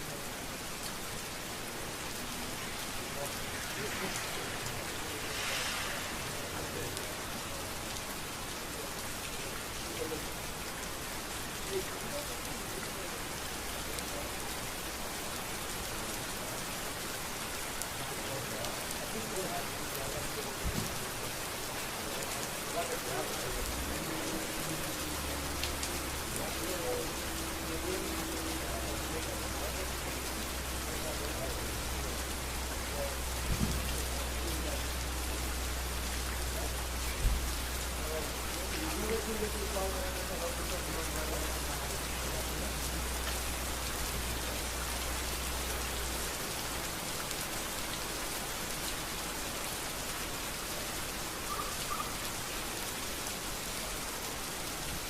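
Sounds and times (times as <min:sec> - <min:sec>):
rain falling on a street: 0:00.0 - 0:55.0.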